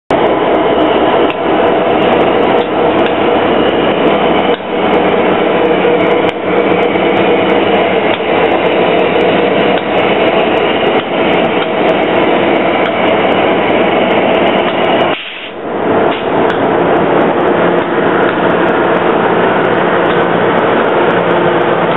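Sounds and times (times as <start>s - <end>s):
diesel locomotive engine idling: 0.1s - 21.9s.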